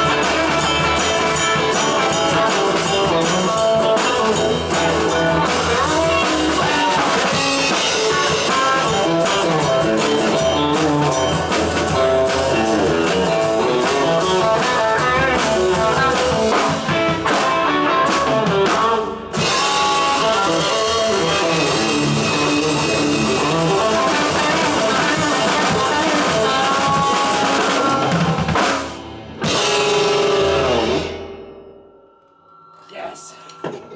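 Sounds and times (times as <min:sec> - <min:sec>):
rock band playing: 0:00.0 - 0:32.2.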